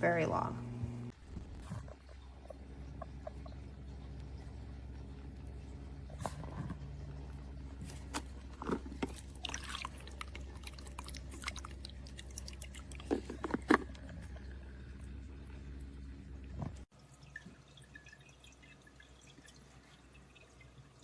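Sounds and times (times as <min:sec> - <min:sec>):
water pump humming: 0:00.0 - 0:21.0.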